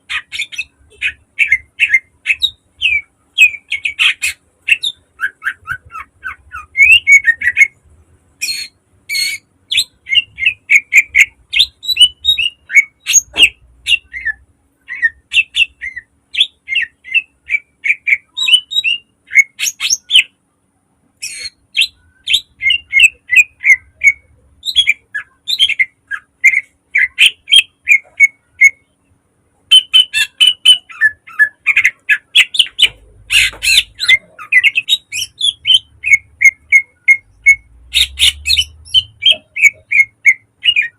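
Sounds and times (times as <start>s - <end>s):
songbird singing chirps and whistles: 0.0s - 20.5s, 21.1s - 40.9s.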